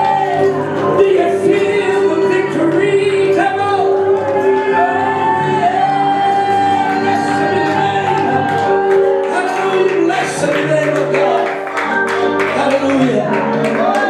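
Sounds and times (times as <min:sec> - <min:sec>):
bass: 0:00.0 - 0:14.0
electric guitar: 0:00.0 - 0:14.0
keyboard: 0:00.0 - 0:14.0
person singing: 0:00.0 - 0:14.0
worship band playing: 0:00.0 - 0:14.0.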